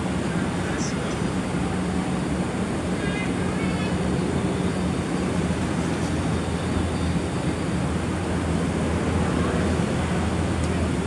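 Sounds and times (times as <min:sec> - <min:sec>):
low engine-like rumble and hum: 0:00.0 - 0:11.0.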